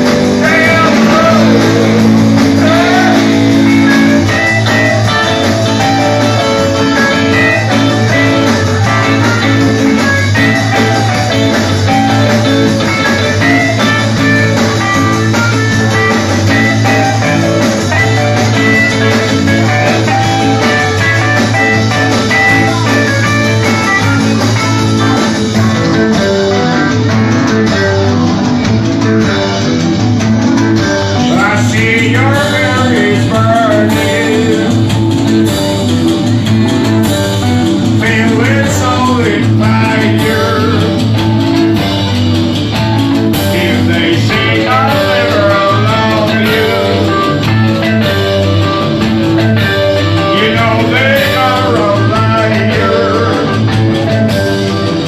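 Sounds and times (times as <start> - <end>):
melodic guitar lead or voice: 0.0 - 55.0
rock band playing live: 0.0 - 55.0.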